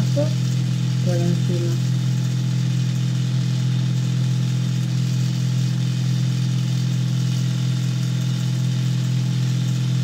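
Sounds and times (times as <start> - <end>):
low mechanical hum with hiss: 0.0 - 10.0.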